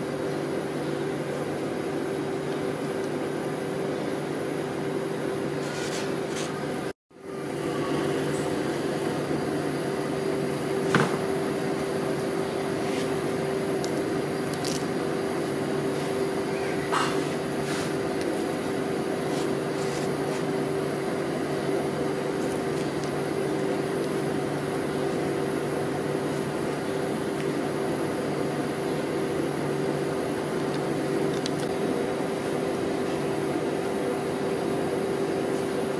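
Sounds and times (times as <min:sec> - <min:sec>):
electric hum of cold plate machine: 0:00.0 - 0:35.9.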